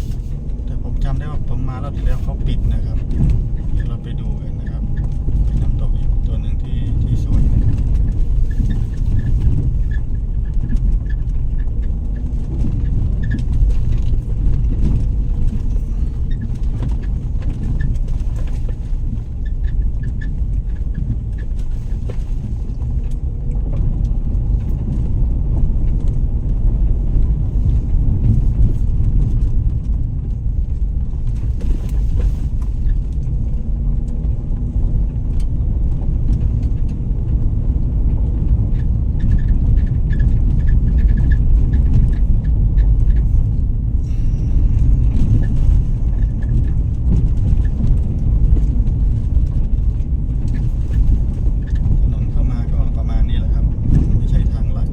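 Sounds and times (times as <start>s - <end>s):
vehicle road and engine rumble: 0.0s - 54.9s.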